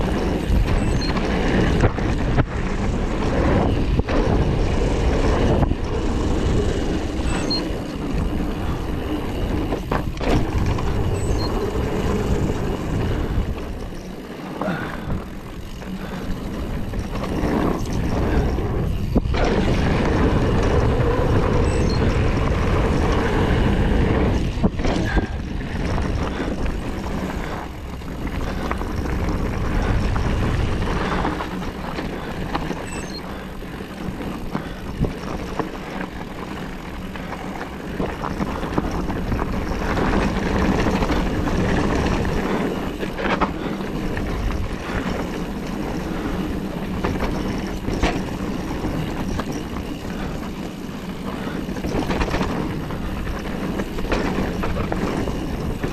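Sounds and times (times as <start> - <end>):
bike rattles and knocks: 0.0 - 55.9
tyres rolling over gravel: 0.0 - 55.9
wind buffeting microphone: 0.0 - 55.9.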